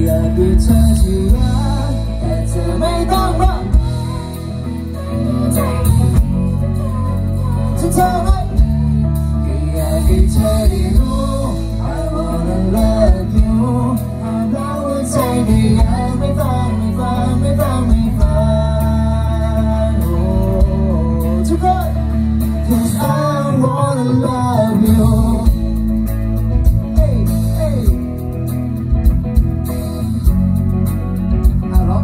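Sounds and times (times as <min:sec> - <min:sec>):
person singing: 0:00.0 - 0:25.8
live band playing: 0:00.0 - 0:32.0.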